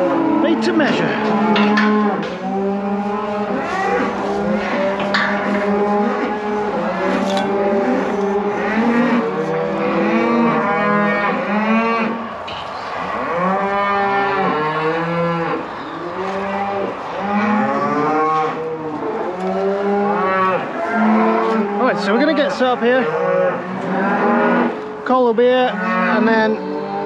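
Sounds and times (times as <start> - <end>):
cattle bellowing: 0.0 - 25.0, 25.7 - 27.0.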